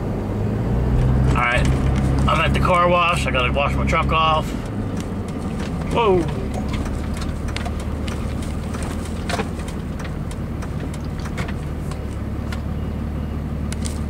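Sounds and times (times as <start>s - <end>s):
truck engine humming: 0.0s - 14.0s.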